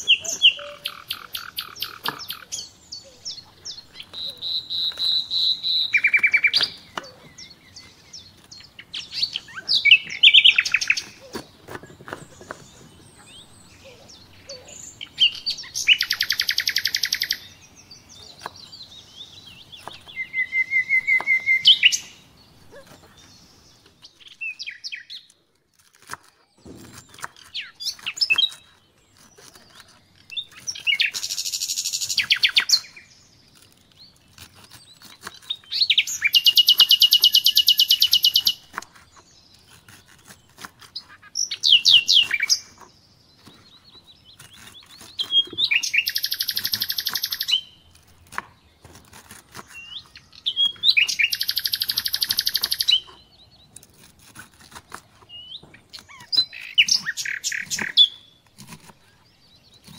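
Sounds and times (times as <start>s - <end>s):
songbird singing trills: 0.0s - 25.4s, 26.4s - 48.9s, 49.5s - 54.1s, 55.2s - 59.9s
faint bird chirps: 0.0s - 48.0s, 49.1s - 59.9s.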